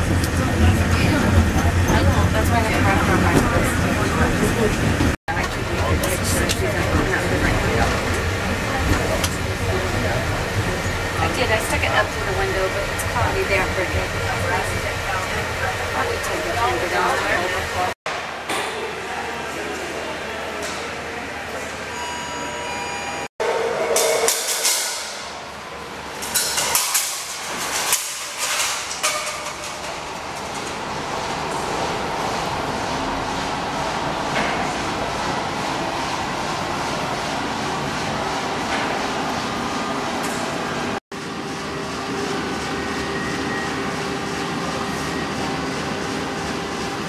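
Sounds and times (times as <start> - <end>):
funicular wheels clattering on track: 0.0 - 21.0, 23.9 - 41.0
haul cable humming over rollers: 0.0 - 47.0.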